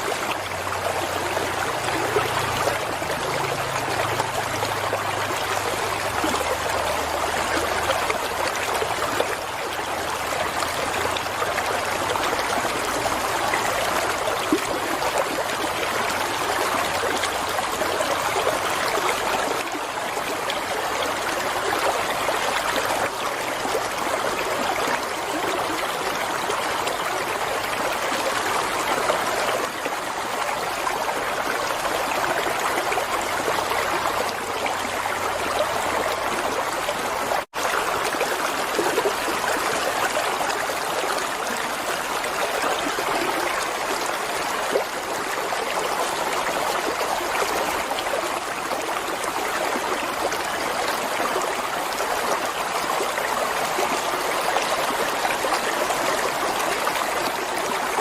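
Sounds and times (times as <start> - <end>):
water rushing and trickling: 0.0 - 58.0.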